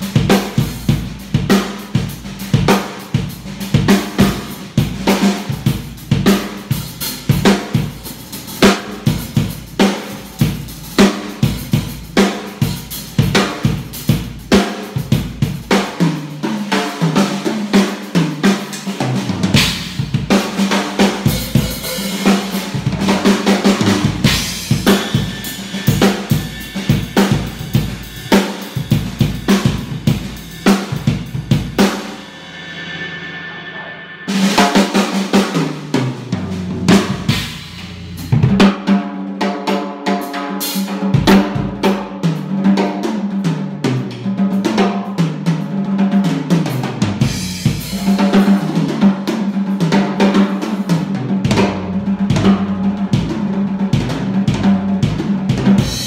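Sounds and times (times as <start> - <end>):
drum kit ringing: 0.0 - 38.9, 46.9 - 56.0
drum kit playing: 0.0 - 56.0.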